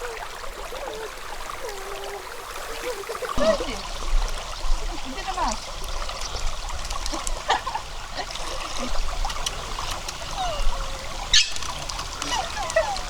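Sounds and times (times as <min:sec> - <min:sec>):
stream water trickling and splashing: 0:00.0 - 0:13.0.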